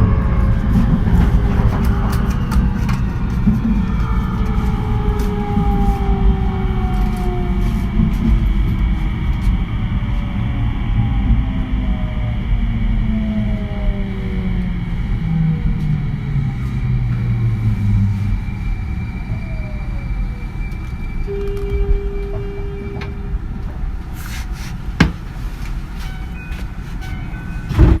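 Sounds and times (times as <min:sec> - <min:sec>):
steady tone: 0:00.0 - 0:24.2
electric train braking: 0:00.0 - 0:28.0.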